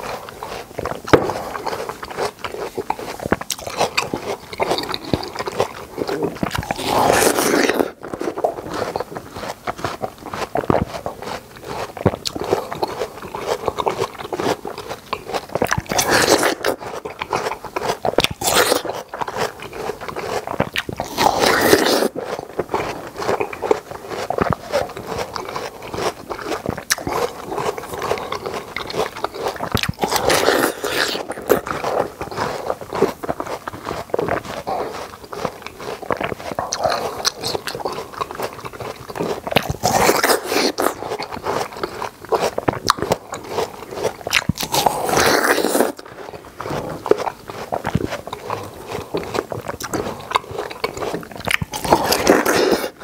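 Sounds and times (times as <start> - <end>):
chewing clicks: 0.0 - 53.0
crunchy watermelon bites: 0.0 - 53.0.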